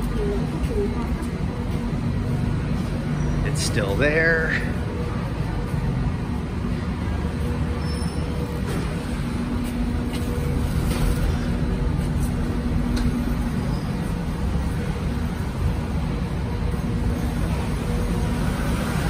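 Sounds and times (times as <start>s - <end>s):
constant low hum: 0.0s - 19.0s
motor vehicles rumbling: 0.0s - 19.0s.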